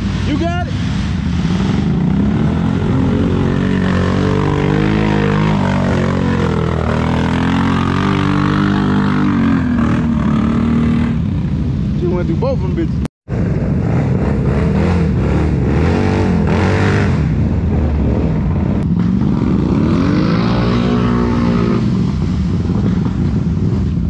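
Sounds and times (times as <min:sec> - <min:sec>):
engine revving: 0:00.0 - 0:11.6, 0:13.4 - 0:24.0
off-road vehicle engines droning: 0:00.0 - 0:24.0.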